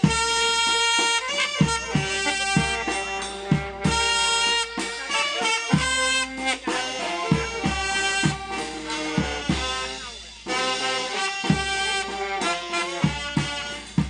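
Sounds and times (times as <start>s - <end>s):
saxophone melody: 0.0s - 14.0s
trumpet and tuba: 0.0s - 14.0s.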